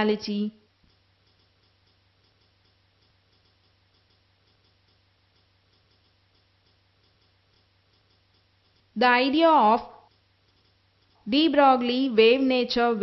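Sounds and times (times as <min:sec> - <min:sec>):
low steady hum: 0:00.0 - 0:13.0
faint regular ticking: 0:00.1 - 0:13.0.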